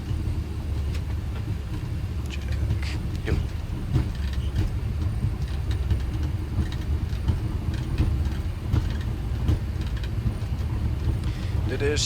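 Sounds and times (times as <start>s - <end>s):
faint clicks and rattles: 0.0s - 12.0s
low rumble of idling engines: 0.0s - 12.0s.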